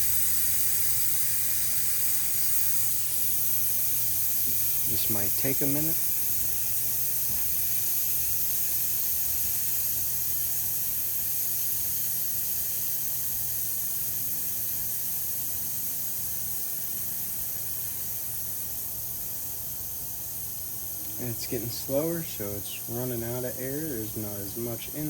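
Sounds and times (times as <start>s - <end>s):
air hissing out of tire: 0.0s - 24.6s.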